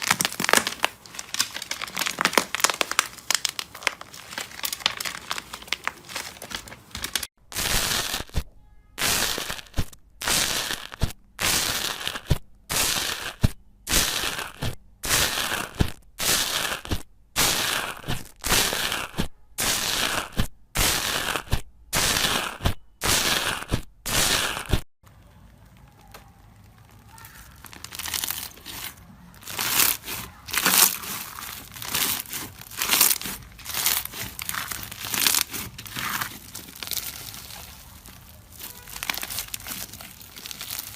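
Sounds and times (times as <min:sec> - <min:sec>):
slime squeezed by hand crackling: 0:00.0 - 0:08.4, 0:09.0 - 0:24.8, 0:25.4 - 0:40.9.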